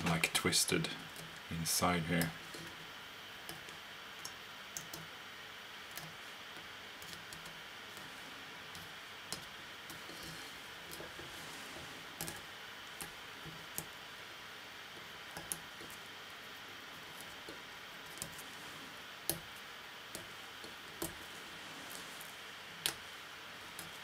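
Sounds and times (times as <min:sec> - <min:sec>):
comb clicking through yarn: 0:00.0 - 0:24.0
steady hiss: 0:00.0 - 0:24.0.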